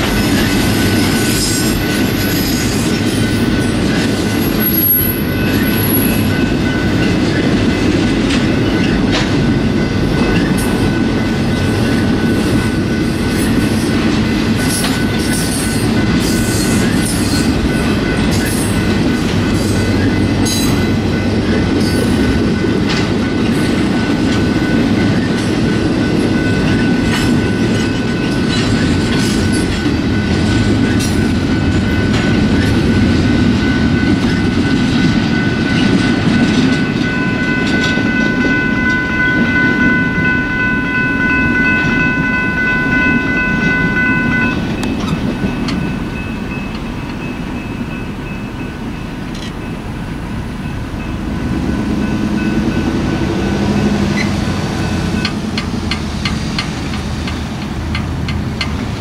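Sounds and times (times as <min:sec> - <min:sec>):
wheels clicking on rails: 0:00.0 - 0:48.2, 0:50.7 - 0:59.0
freight cars rumbling: 0:00.0 - 0:59.0.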